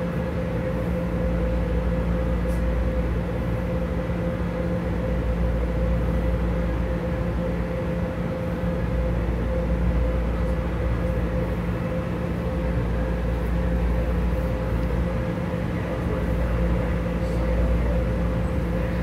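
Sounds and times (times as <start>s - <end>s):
monorail car interior hum: 0.0s - 19.0s.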